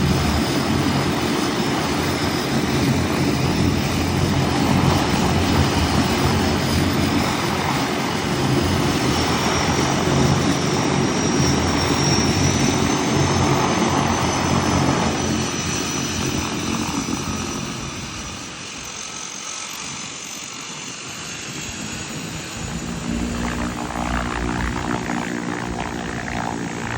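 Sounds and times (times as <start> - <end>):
high turbine whine: 0.0 - 26.9
propeller drone: 0.0 - 26.9.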